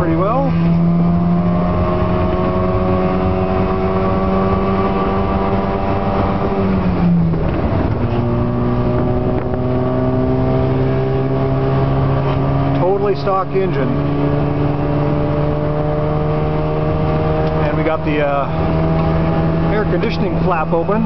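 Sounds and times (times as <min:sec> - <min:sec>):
two-stroke engine accelerating: 0:00.0 - 0:21.0.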